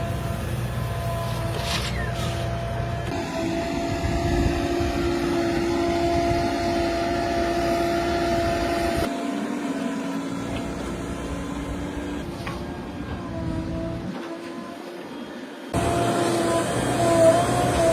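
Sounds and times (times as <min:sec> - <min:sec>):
heavy diesel engine running: 0:00.0 - 0:17.9.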